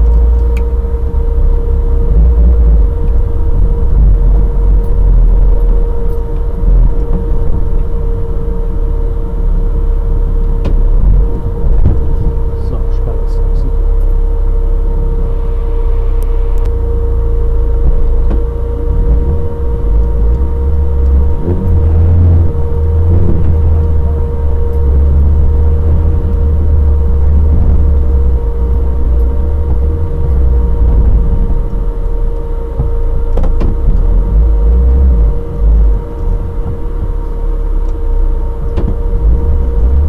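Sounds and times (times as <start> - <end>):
off-road vehicle engine rumble: 0.0 - 40.0
steady whine: 0.0 - 40.0.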